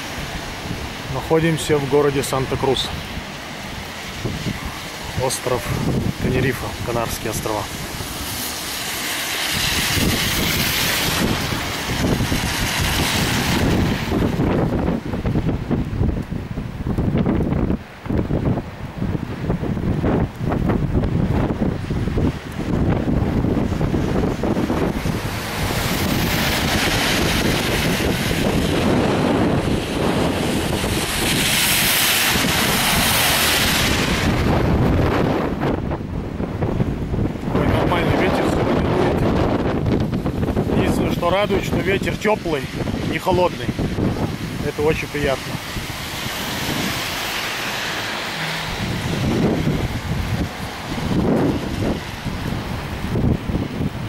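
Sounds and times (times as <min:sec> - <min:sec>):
car traffic on wet road: 0:00.0 - 0:54.0
wind buffeting microphone: 0:00.0 - 0:54.0.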